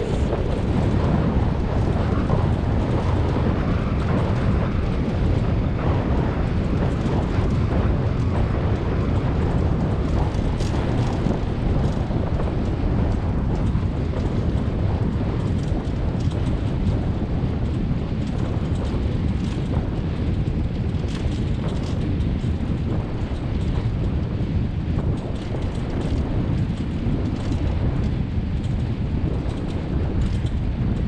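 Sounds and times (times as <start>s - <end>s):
light clicks and rattles: 0.0s - 31.0s
wheels rumbling on dirt track: 0.0s - 31.0s
wind buffeting microphone: 0.0s - 31.0s.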